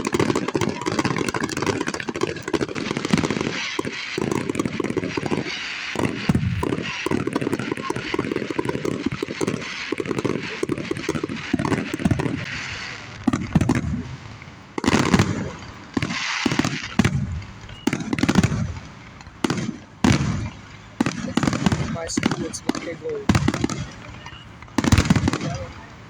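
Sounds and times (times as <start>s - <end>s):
loud firework booms: 0.0s - 25.9s
fireworks popping and crackling: 0.0s - 26.0s.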